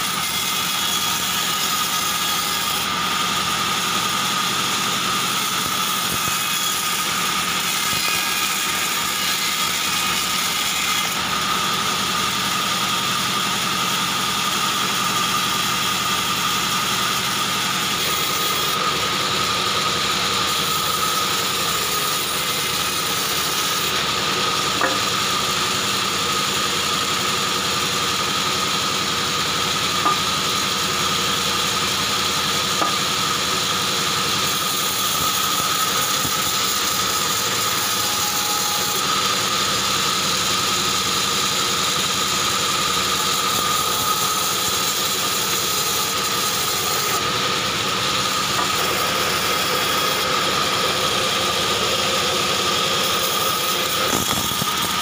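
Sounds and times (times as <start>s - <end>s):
band sawmill drone and whine: 8.7s - 55.0s.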